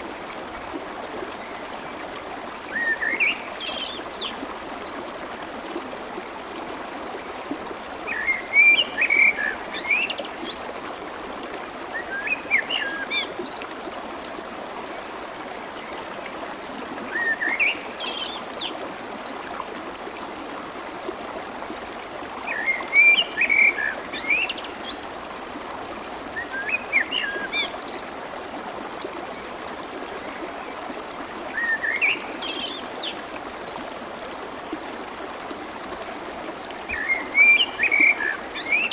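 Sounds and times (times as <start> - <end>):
water flowing and babbling: 0.0 - 38.9.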